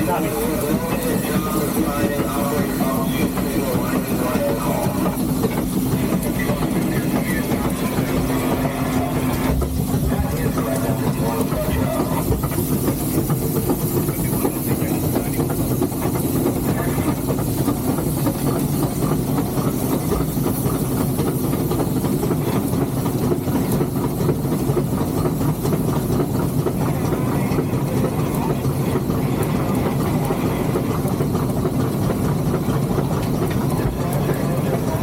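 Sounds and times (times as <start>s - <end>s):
steam hissing: 0.0s - 35.0s
steam locomotive low rumble: 0.0s - 35.0s.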